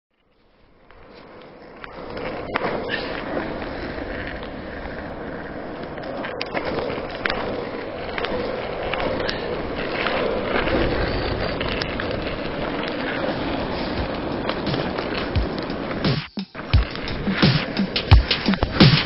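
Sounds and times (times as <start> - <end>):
longboard wheels rolling on asphalt: 0.1 - 19.0.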